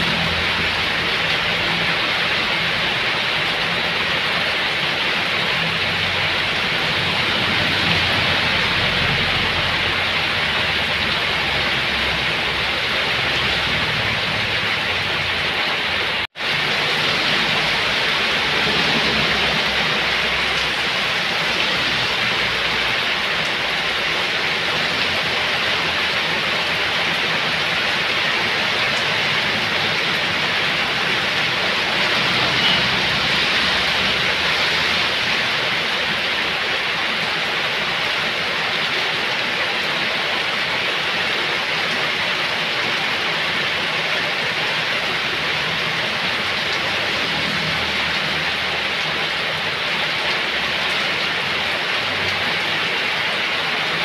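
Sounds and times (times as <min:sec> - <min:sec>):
heavy rain on flooded ground: 0:00.0 - 0:54.0.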